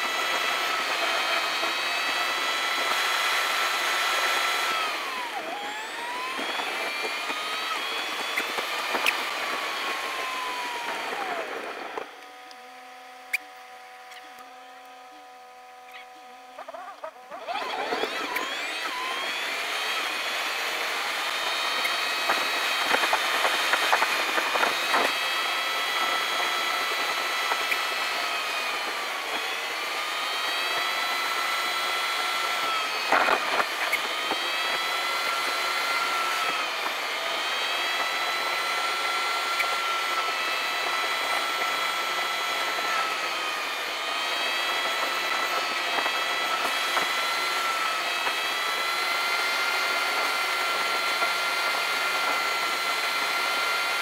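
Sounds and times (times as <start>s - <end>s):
sped-up car engine whine: 0.0s - 54.0s.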